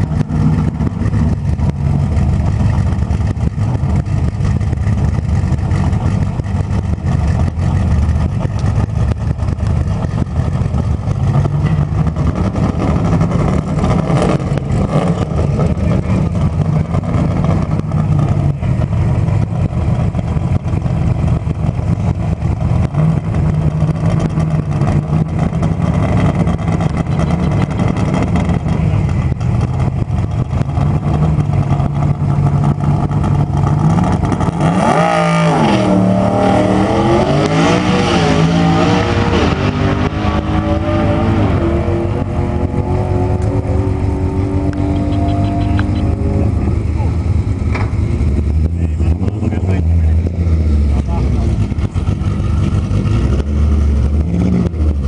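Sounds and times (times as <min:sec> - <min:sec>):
drag car engine revving: 0:00.0 - 0:55.0.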